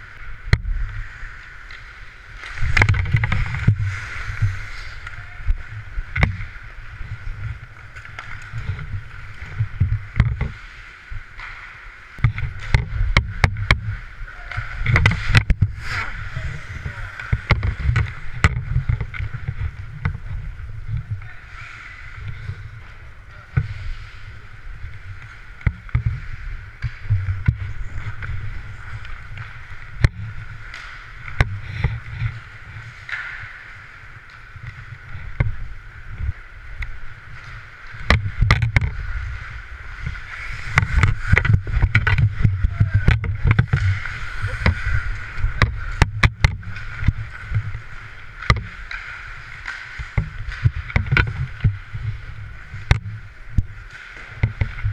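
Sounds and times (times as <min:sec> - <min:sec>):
hockey sticks and puck clacking: 0:00.0 - 0:54.9
rumble of skating: 0:00.0 - 0:54.9.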